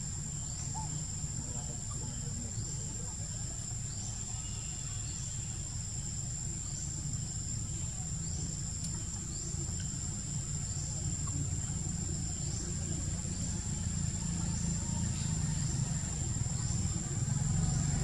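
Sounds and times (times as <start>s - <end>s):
high-pitched insect drone: 0.0s - 18.0s
rising insect chirp: 0.0s - 18.0s.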